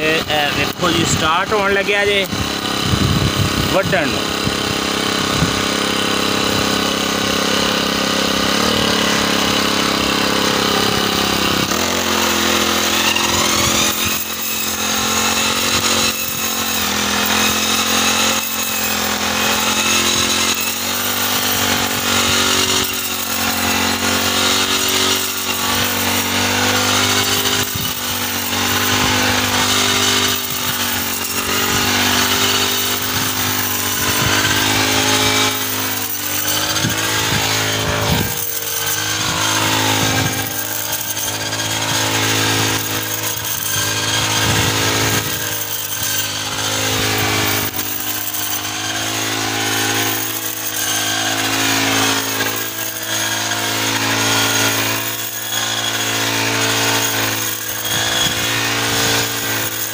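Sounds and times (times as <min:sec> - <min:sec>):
brush cutter engine revving: 0:00.0 - 0:59.9.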